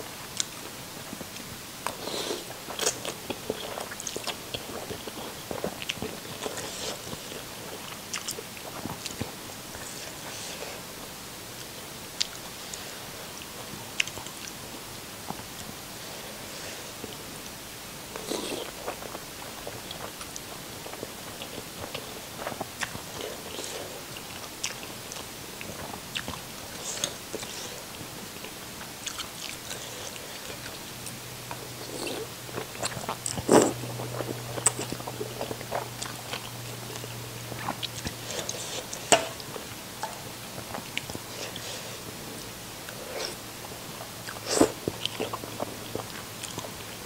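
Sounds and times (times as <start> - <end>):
low steady hum: 0.0 - 47.0
person chewing: 1.2 - 10.9, 18.1 - 47.0.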